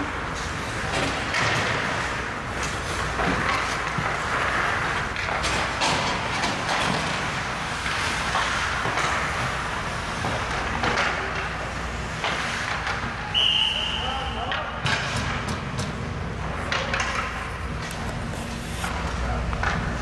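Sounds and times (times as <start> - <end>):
skate blades scraping ice: 0.0 - 13.3, 15.0 - 20.0
hockey sticks clacking on puck: 0.0 - 13.4, 14.3 - 20.0.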